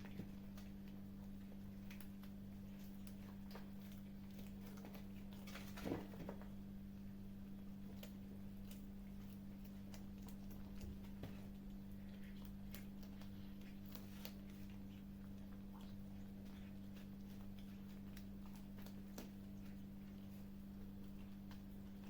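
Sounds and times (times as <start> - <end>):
kittens chewing and crunching: 0.0 - 22.0
steady low hum: 0.0 - 22.0.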